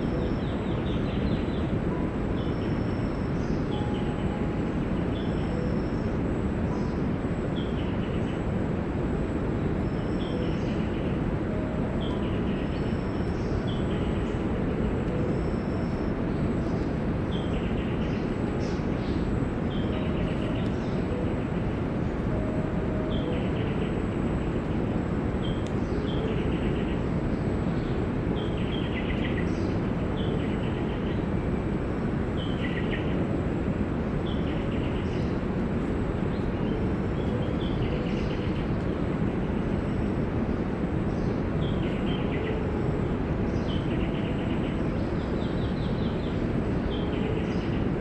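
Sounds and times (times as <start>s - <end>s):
faint high steady tone: 0.0s - 48.0s
low rushing noise: 0.0s - 48.0s.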